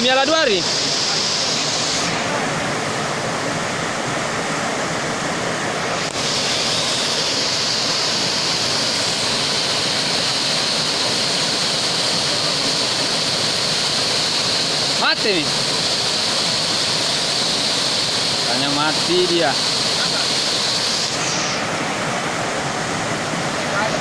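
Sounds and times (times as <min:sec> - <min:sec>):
rushing river water: 0:00.0 - 0:24.0.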